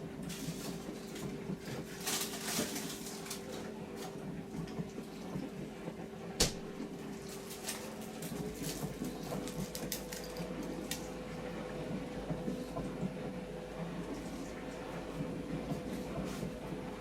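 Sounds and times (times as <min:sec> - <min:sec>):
dishwasher pump hum: 0:00.0 - 0:17.0.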